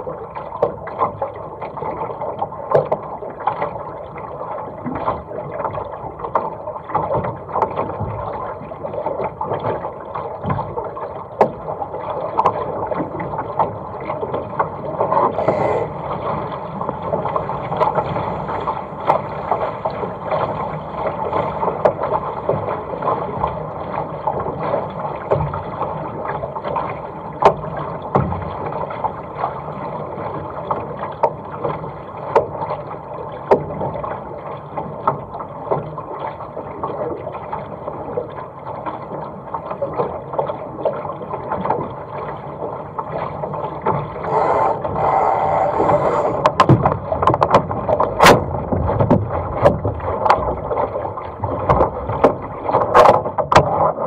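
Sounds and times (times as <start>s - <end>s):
water splashing along boat hull: 0.0s - 54.0s.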